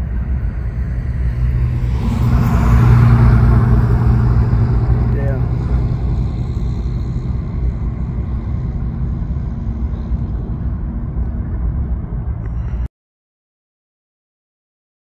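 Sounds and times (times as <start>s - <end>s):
distant diesel locomotives rumbling: 0.0s - 12.9s.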